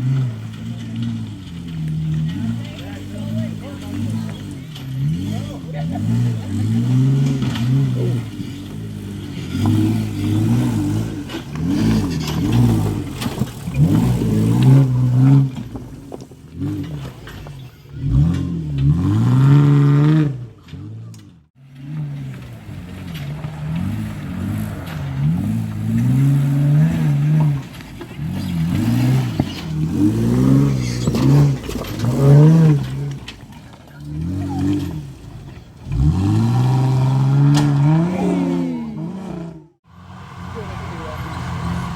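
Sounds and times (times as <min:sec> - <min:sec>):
off-road vehicle engine revving: 0:00.0 - 0:41.9.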